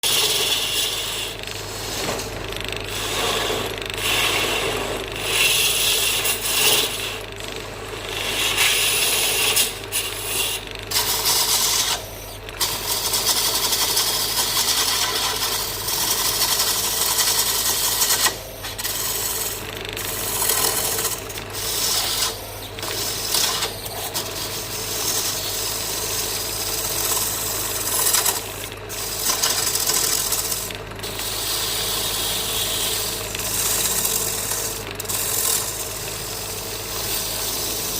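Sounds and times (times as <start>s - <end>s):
turning tool scraping wood: 0.0s - 37.9s
lathe motor humming: 0.1s - 37.9s.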